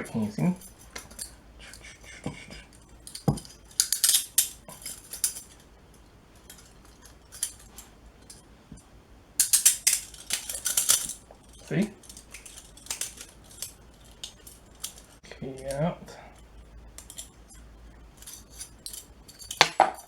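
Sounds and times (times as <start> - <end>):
handcuffs ratcheting metal clicks: 0.3 - 8.4, 9.4 - 20.0.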